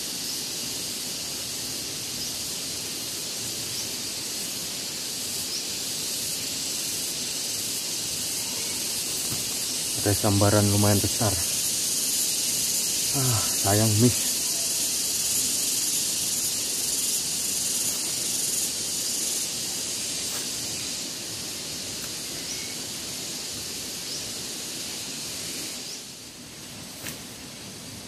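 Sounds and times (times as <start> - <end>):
high-pitched riverside hiss: 0.0 - 28.0.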